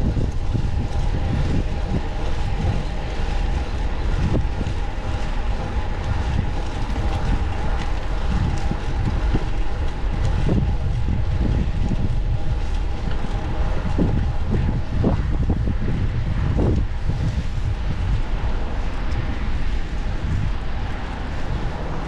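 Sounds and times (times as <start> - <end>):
bicycle road noise: 0.0 - 22.0
wind rumbling over microphone: 0.0 - 22.0.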